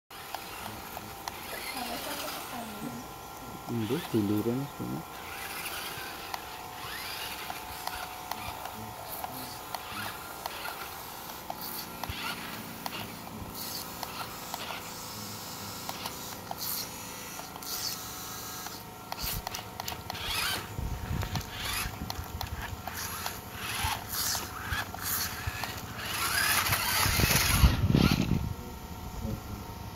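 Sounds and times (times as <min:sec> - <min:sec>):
toy truck motor whine: 0:00.1 - 0:29.4.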